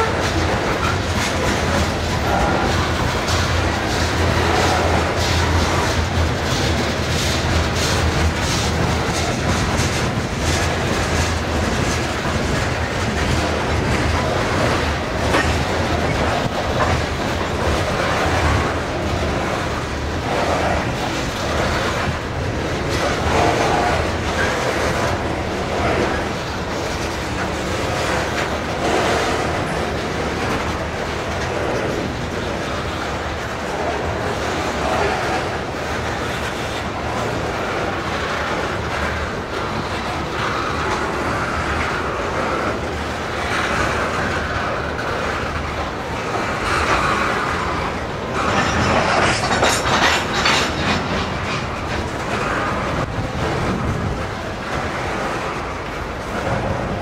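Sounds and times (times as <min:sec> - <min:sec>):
freight train wheels rumbling: 0:00.0 - 0:57.0
wheels clacking on rail: 0:00.0 - 0:57.0.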